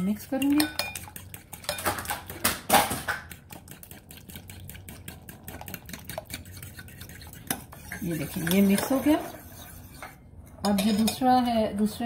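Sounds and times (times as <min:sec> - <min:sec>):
spoon beating eggs in a bowl: 0:00.0 - 0:11.6.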